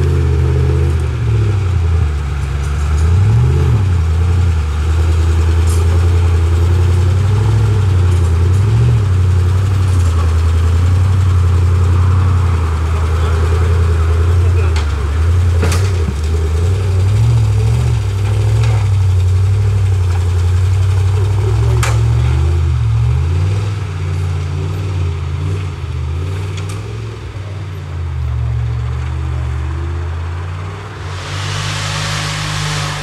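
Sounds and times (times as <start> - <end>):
jeep engine running at low revs: 0.0 - 33.0.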